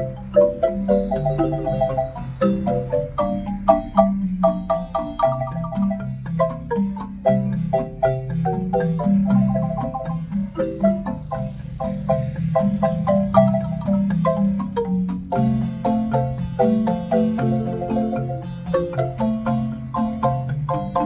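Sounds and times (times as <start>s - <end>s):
marimba bass line: 0.0s - 21.0s
marimba melody: 0.0s - 21.0s.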